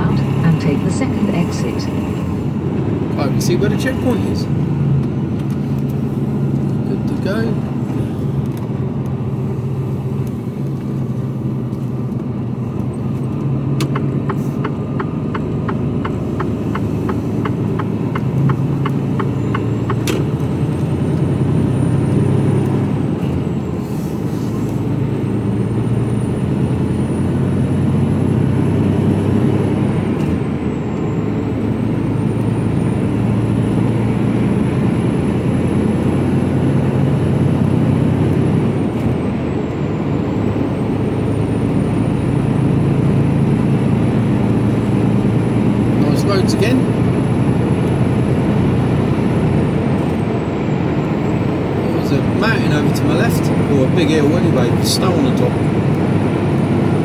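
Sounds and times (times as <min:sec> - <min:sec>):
lorry diesel engine accelerating: 0:00.0 - 0:57.0.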